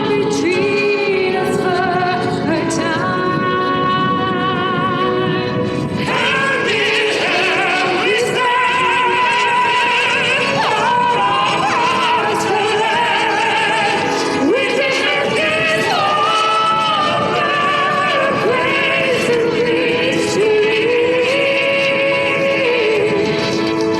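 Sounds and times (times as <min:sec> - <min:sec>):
singers holding high notes: 0:00.0 - 0:23.9.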